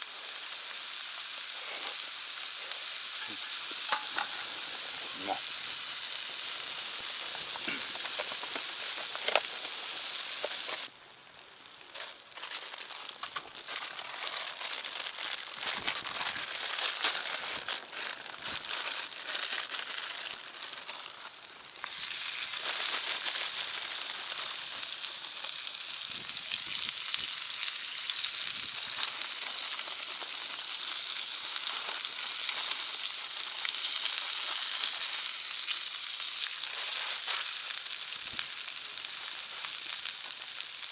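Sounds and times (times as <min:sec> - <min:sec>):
crackles and pops: 0:00.0 - 0:40.9
meat sizzling on a grill pan: 0:00.0 - 0:40.9.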